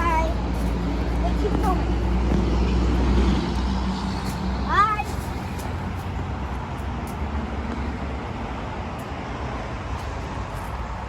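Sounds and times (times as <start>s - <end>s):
road noise low rumble: 0.0s - 11.0s.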